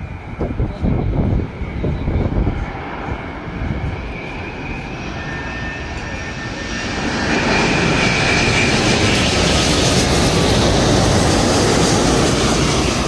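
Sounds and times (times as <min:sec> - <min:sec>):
jet airliner engines whining: 0:00.0 - 0:13.0.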